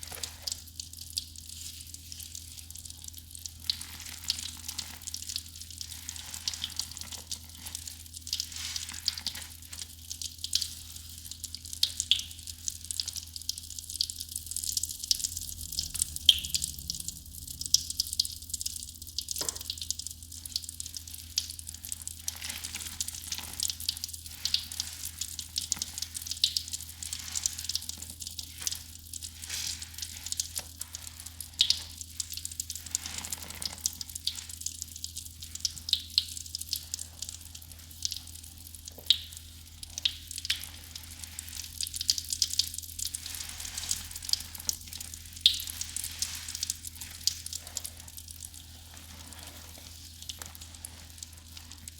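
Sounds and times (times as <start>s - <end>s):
soap foam fizzing and crackling: 0.0s - 51.9s.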